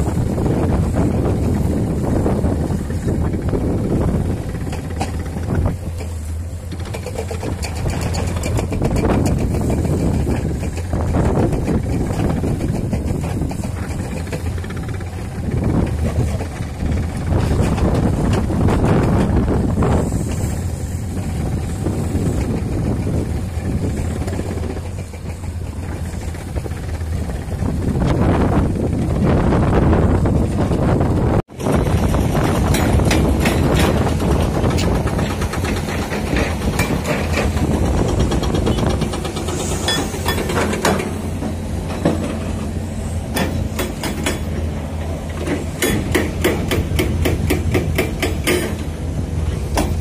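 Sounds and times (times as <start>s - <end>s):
heavy diesel equipment running: 0.0s - 50.0s
wind buffeting microphone: 0.0s - 50.0s.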